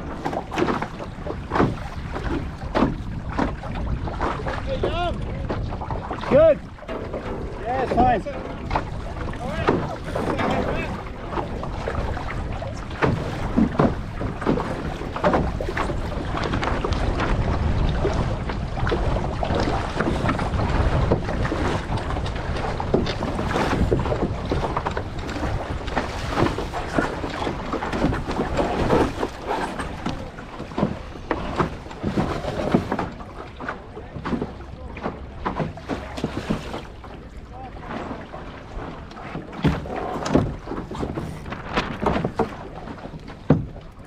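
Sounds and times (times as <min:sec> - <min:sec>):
wind buffeting microphone: 0:00.0 - 0:37.9
water slapping against hull: 0:00.0 - 0:44.0
water splashes: 0:00.0 - 0:44.0.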